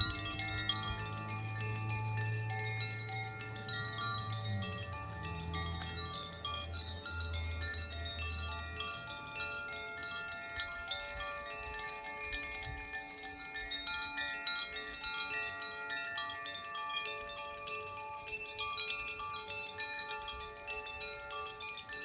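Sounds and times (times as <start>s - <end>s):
hand-held chimes ringing: 0.0s - 22.0s.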